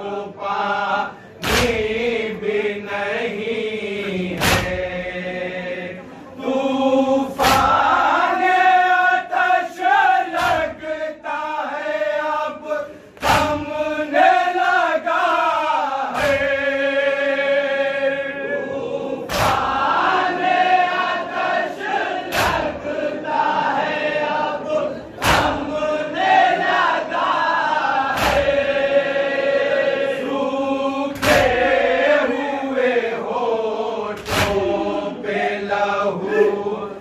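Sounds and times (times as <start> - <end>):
men's voices chanting together: 0.0 - 37.0.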